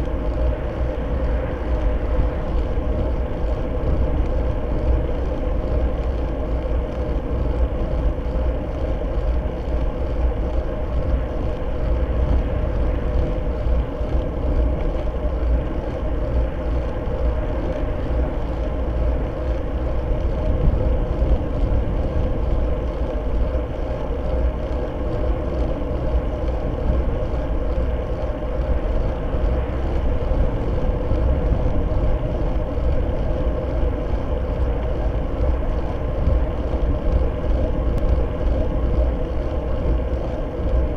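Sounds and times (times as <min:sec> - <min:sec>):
road rumble: 0:00.0 - 0:40.9
wind rush: 0:00.0 - 0:40.9.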